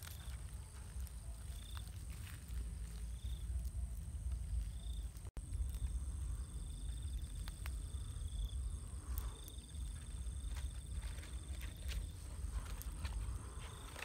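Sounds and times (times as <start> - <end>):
campfire crackling: 0.0 - 14.0
cricket-like trill: 0.0 - 14.0
high-pitched insect whine: 0.0 - 14.0
low rumble: 0.0 - 14.0.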